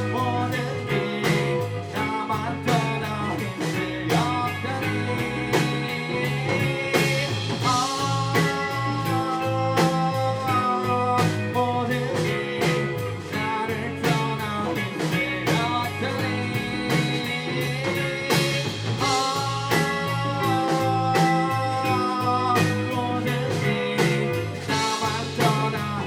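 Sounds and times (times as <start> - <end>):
drums: 0.0 - 26.0
electric guitar: 0.0 - 26.0.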